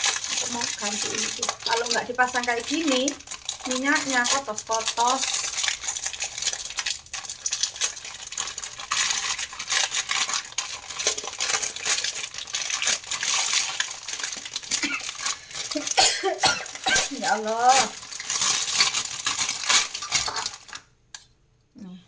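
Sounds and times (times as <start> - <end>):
packaging rustling: 0.0 - 20.9
kitchen items clicking and clinking: 0.0 - 21.3.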